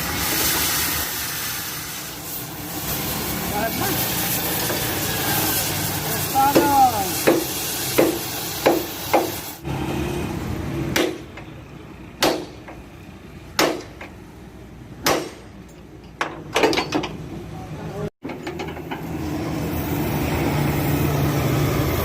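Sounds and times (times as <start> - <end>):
workshop noise: 0.0 - 22.0.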